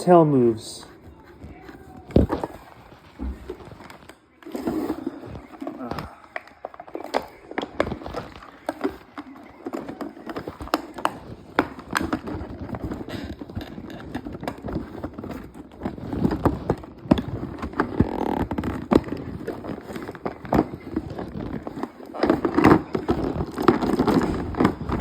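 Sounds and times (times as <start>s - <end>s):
packaging clicks and crinkling: 0.0s - 25.0s.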